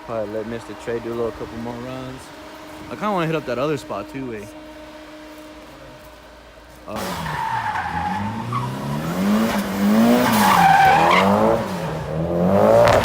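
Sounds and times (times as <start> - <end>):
car engine revving: 0.0 - 13.0
tires squealing: 0.0 - 13.0.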